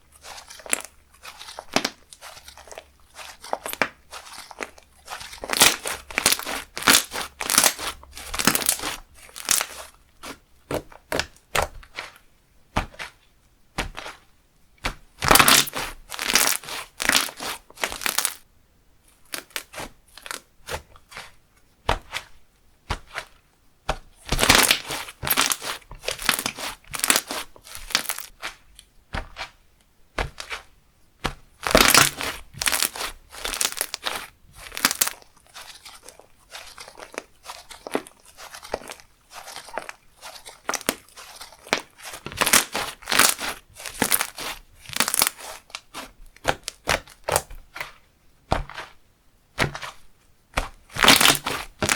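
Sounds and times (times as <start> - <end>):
slime crackling and popping: 0.2 - 12.1, 14.8 - 18.4, 19.3 - 20.4, 24.2 - 29.6, 31.2 - 49.0, 49.6 - 51.9.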